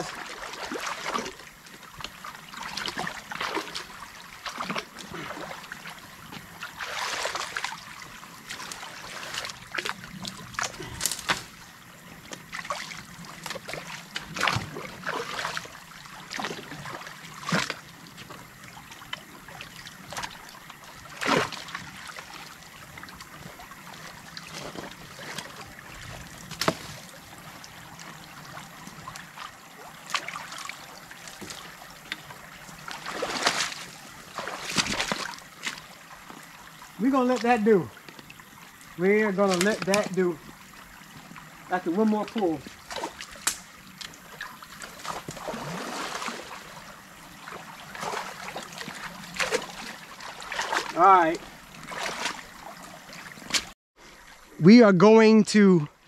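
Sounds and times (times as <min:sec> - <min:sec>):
splashes: 0:00.0 - 0:53.8
water trickling through dam: 0:00.0 - 0:56.0.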